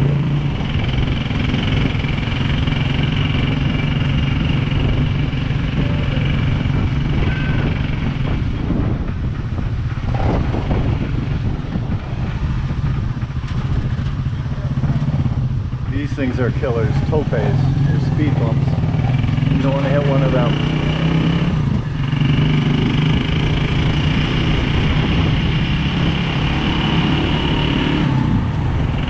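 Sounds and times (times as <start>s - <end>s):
small motorcycle engine running: 0.0s - 29.0s.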